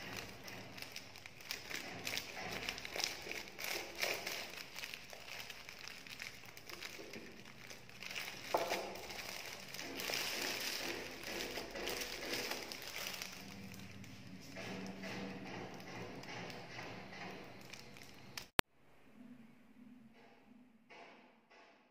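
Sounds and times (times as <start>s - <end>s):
foil wrap crinkling: 0.0s - 18.5s.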